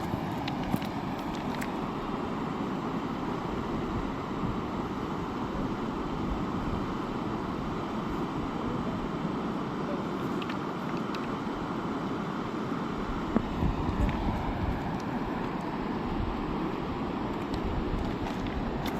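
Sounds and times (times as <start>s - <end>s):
fast river rushing: 0.0s - 18.9s.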